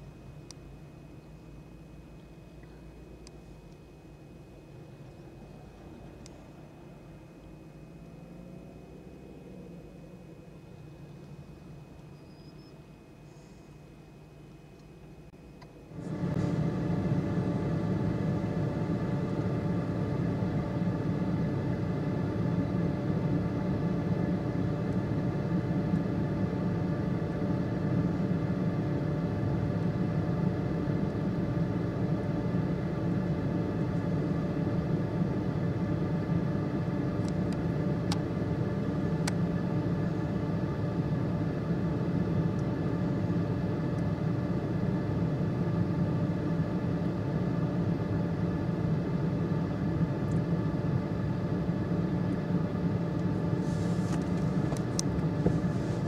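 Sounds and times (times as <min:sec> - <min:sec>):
car engine hum inside cabin: 0:00.0 - 0:56.0.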